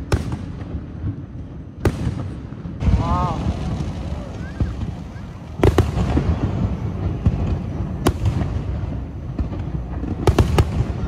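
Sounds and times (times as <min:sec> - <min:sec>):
continuous low rumble: 0:00.0 - 0:11.0
small firework cracks: 0:00.0 - 0:11.0.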